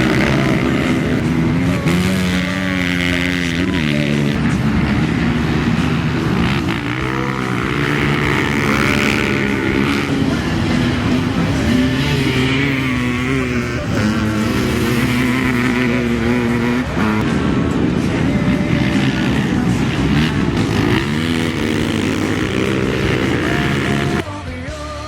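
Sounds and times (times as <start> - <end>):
atv engines revving: 0.0 - 24.7.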